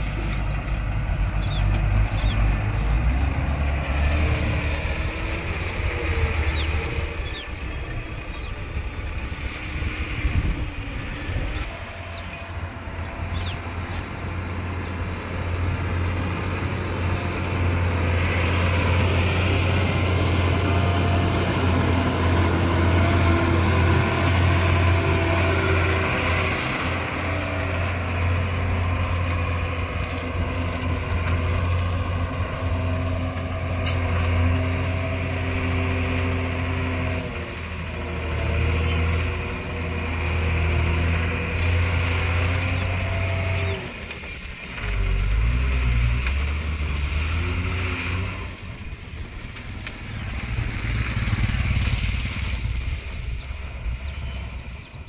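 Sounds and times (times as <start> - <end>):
diesel truck driving past: 0.0 - 55.0.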